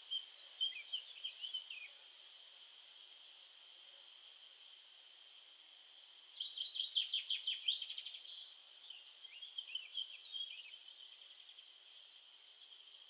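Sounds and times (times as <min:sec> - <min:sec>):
insects buzzing: 0:00.0 - 0:13.0
songbird chirping: 0:00.0 - 0:13.0.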